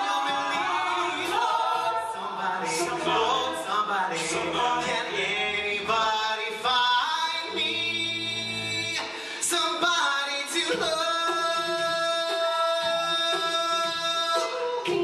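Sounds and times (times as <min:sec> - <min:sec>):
vocal group singing in harmony: 0:00.0 - 0:15.0.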